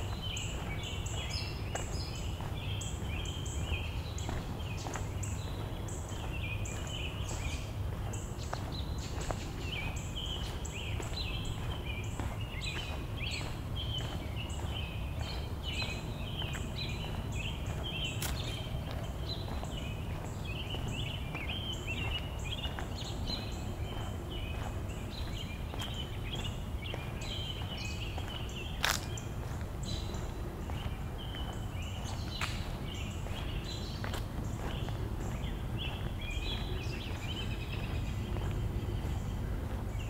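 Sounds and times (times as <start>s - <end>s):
birds chirping: 0.0s - 40.0s
steady low rumble: 0.0s - 40.0s.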